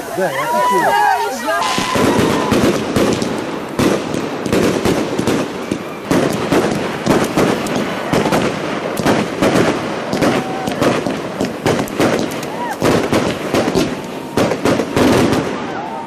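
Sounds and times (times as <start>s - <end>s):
fireworks popping and banging: 0.0s - 16.0s.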